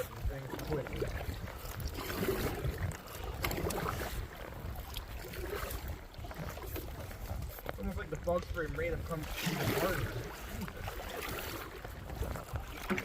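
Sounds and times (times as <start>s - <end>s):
water splashing around canoe: 0.0s - 13.0s
wind rumble on microphone: 0.0s - 13.0s.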